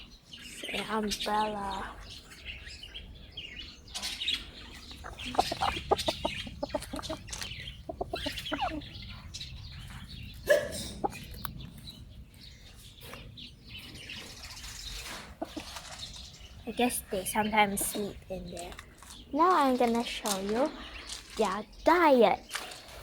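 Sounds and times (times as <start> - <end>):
chickens clucking: 0.8 - 21.3.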